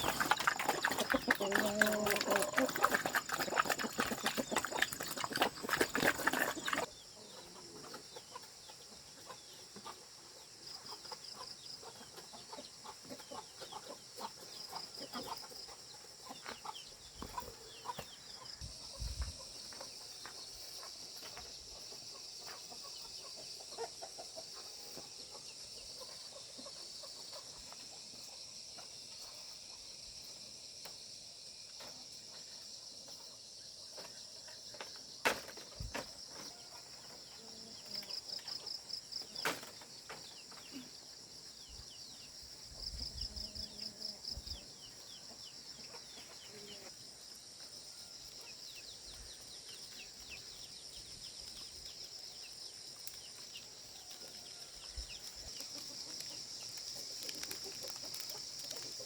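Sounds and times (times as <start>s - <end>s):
chickens clucking: 0.0s - 29.8s, 33.9s - 50.7s, 53.1s - 59.0s
insect chorus with trills: 0.0s - 59.0s.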